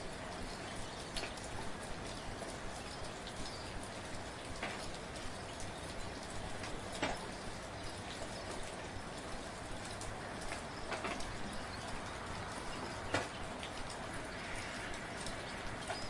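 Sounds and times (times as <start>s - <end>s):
soft steady rain: 0.0s - 16.0s.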